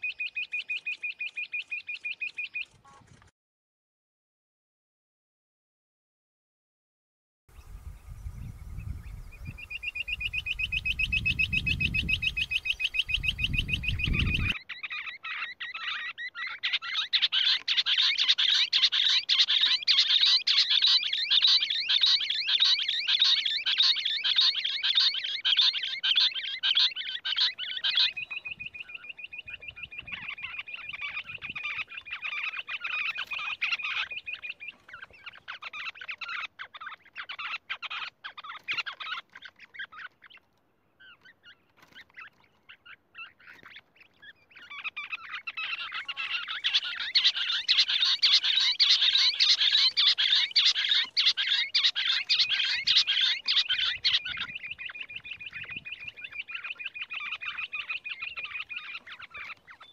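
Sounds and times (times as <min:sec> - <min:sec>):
quail calling rapid chatter: 0:09.4 - 0:59.9.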